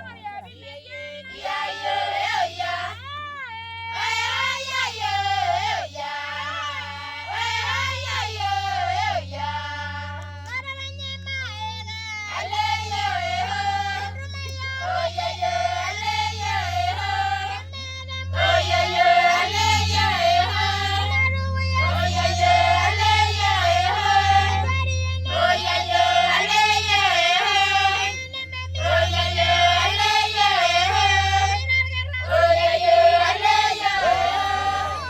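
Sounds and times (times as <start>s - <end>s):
high voices singing: 0.0s - 3.1s, 3.9s - 10.8s, 11.6s - 35.0s
steady low drone: 0.0s - 35.0s.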